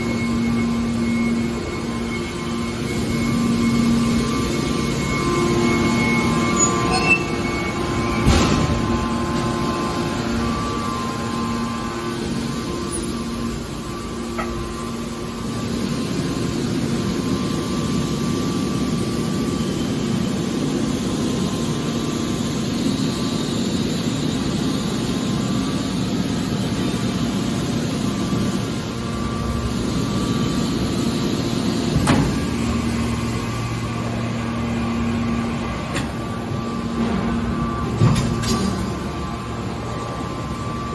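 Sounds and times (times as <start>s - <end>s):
baler machine humming: 0.0s - 40.9s.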